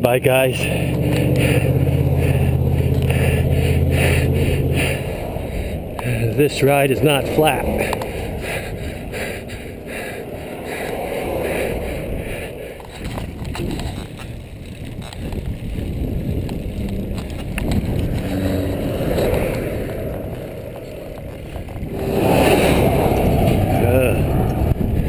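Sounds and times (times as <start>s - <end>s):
bicycle road noise: 0.0s - 25.0s
wind on microphone: 0.6s - 25.0s.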